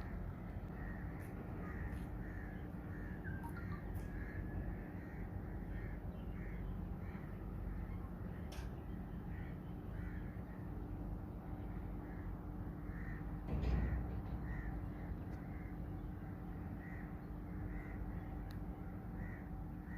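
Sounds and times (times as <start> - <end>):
crows cawing: 0.0 - 7.8, 9.3 - 10.8, 11.7 - 18.3, 19.0 - 19.9
low outdoor rumble: 0.0 - 19.9.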